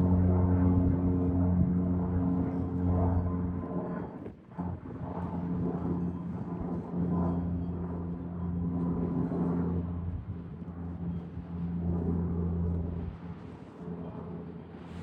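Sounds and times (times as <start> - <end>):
turboprop aircraft droning: 0.0 - 15.0.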